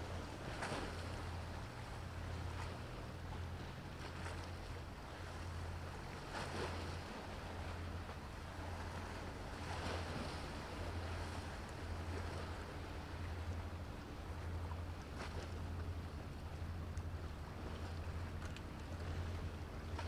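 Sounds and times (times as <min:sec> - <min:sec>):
low hum: 0:00.0 - 0:20.0
sea waves lapping: 0:00.0 - 0:20.0.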